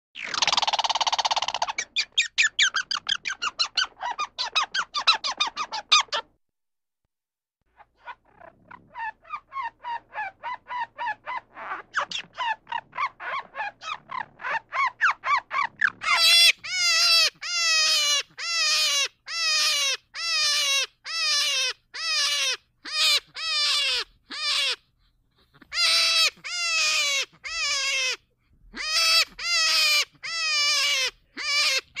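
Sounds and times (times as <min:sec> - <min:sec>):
squirrel chattering: 0:00.2 - 0:06.3, 0:08.0 - 0:24.8, 0:25.6 - 0:28.2, 0:28.8 - 0:32.0.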